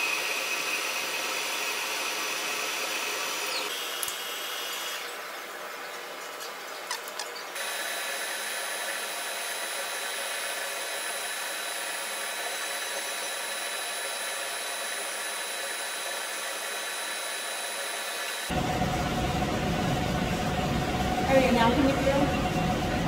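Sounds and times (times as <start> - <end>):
milling machine spindle whine: 0.0 - 6.7, 7.5 - 23.0.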